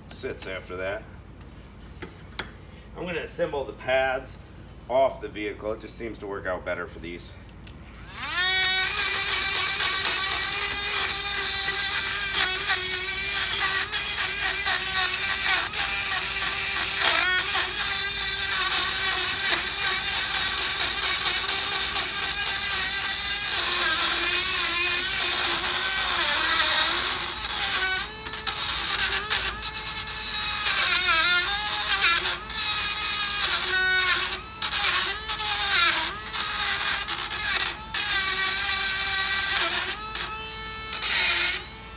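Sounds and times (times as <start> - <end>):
rotary tool grinding metal: 7.9 - 41.9.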